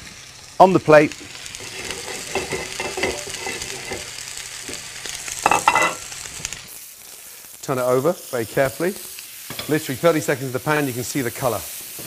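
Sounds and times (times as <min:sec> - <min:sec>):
steak sizzling in hot pan: 0:00.0 - 0:12.0.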